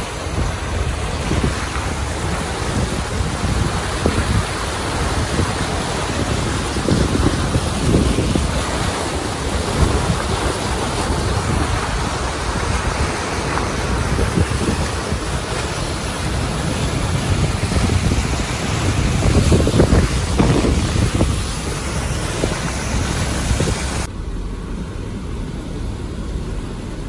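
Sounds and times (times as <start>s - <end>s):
wind buffeting microphone: 0.0s - 24.1s
floodwater rushing and splashing: 0.0s - 27.0s.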